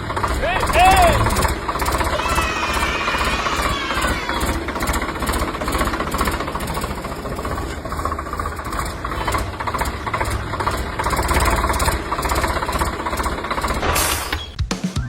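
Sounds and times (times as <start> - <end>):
small tractor engine running: 0.0 - 14.6.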